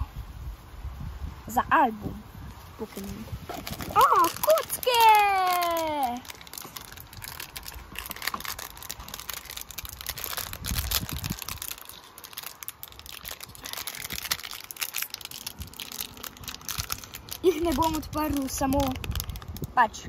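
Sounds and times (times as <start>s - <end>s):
plastic bag crinkling: 3.0s - 19.7s.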